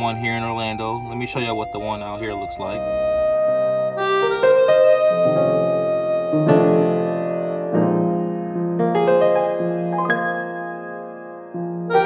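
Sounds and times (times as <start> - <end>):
electric piano slow chords: 0.0 - 12.0.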